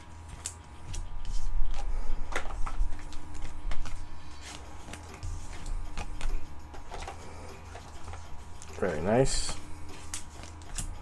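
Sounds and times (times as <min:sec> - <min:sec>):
cards and wrappers rustling: 0:00.0 - 0:11.0.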